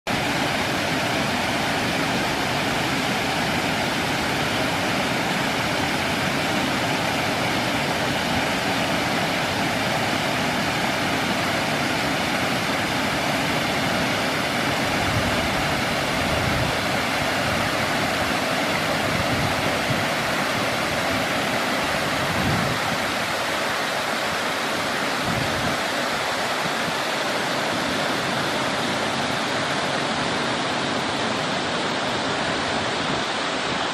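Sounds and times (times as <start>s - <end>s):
water rushing over a weir: 0.1s - 33.9s.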